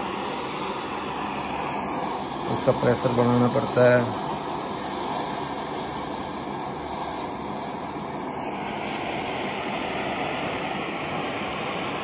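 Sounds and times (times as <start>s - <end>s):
stove burner flame rushing: 0.0s - 12.0s.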